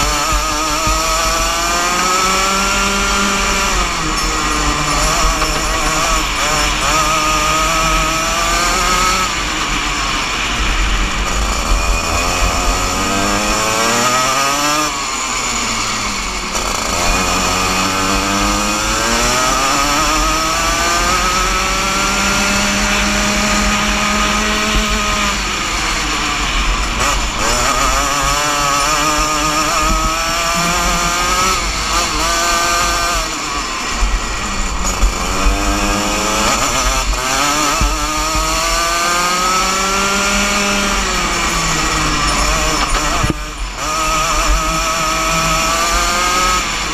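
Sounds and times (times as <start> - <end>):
kart engine racing: 0.0 - 46.9.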